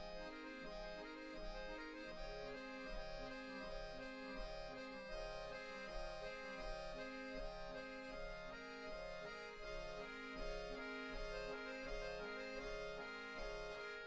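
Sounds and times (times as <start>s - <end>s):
accordions playing: 0.0s - 14.0s.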